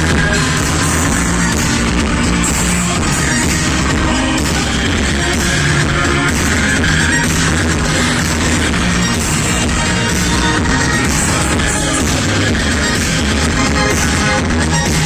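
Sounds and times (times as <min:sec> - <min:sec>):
loud music with steady beat: 0:00.0 - 0:15.0
person singing: 0:00.0 - 0:15.0.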